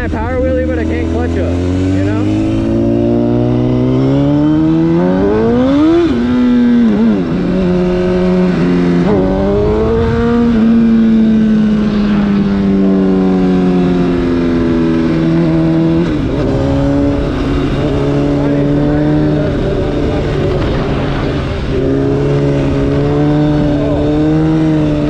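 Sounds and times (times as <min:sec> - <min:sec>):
motorcycle engine revving: 0:00.0 - 0:25.0
wind rush: 0:00.0 - 0:25.0.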